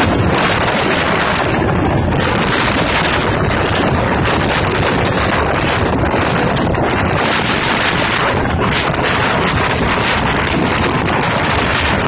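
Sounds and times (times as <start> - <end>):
train running on track: 0.0 - 12.0
wind noise on microphone: 0.0 - 12.0.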